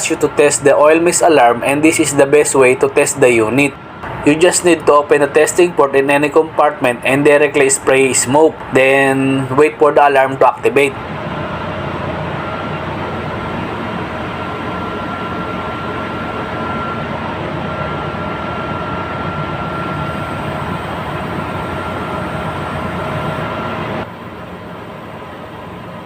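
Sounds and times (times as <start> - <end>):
steady high tone: 0.0 - 25.9
engine room machinery noise: 0.0 - 26.0.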